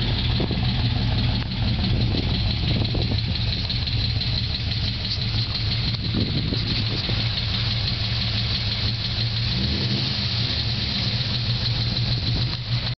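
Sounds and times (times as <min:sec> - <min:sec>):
car engine idling: 0:00.0 - 0:13.0
engine lifter ticking: 0:00.0 - 0:13.0.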